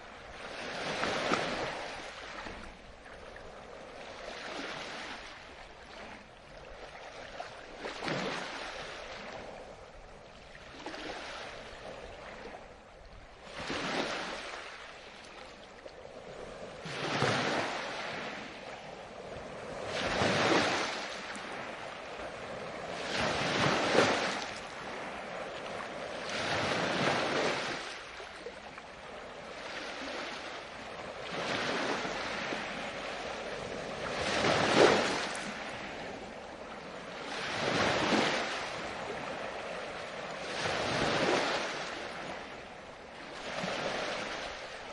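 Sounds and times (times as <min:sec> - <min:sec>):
waves breaking on beach: 0:00.0 - 0:44.9.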